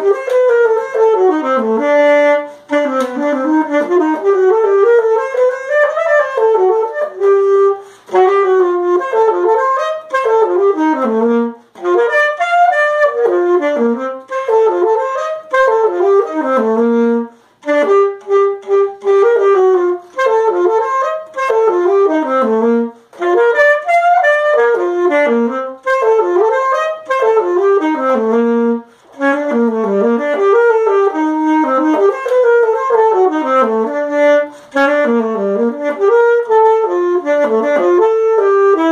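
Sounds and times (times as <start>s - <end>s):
solo alto saxophone: 0.0s - 38.9s.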